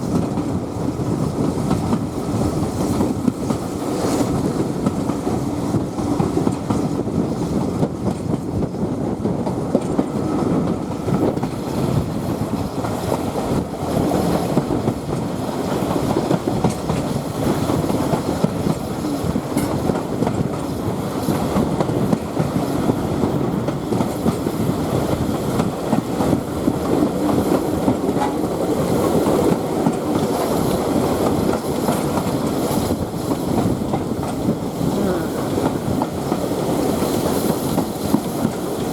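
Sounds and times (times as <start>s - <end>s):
clickety-clack of track: 0.0s - 38.9s
train wheels rumbling on rails: 0.0s - 38.9s.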